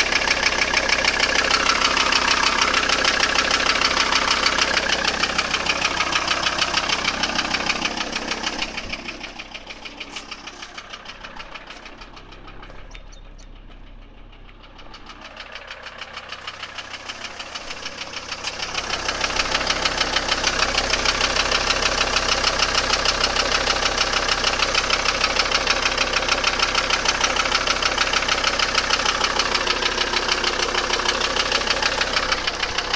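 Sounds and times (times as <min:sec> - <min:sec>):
diesel engine idling: 0:00.0 - 0:32.9.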